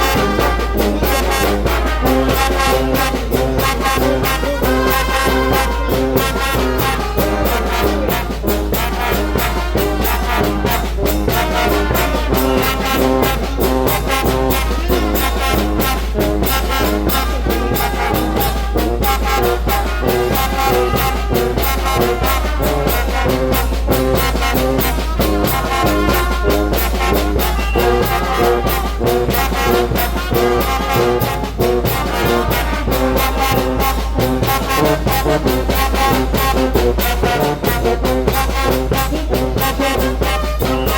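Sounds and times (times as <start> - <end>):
brass band playing: 0.0 - 40.9.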